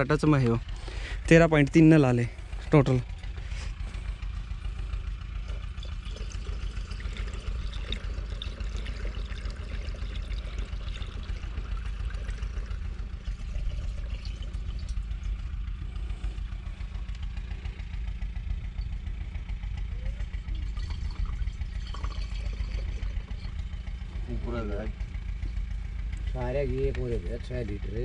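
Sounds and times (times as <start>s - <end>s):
fuel trickling into container: 0.0s - 26.4s
tractor engine idling: 0.0s - 28.0s.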